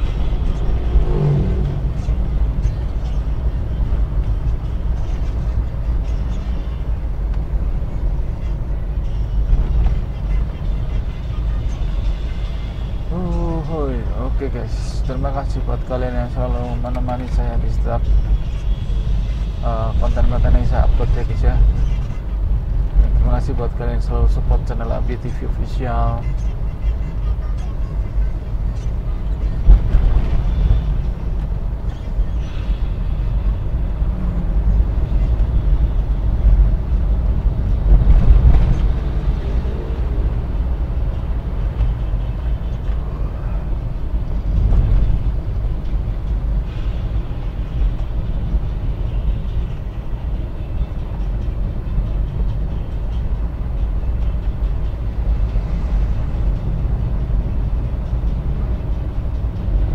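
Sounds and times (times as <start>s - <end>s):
engine and road noise rumble: 0.0s - 59.9s.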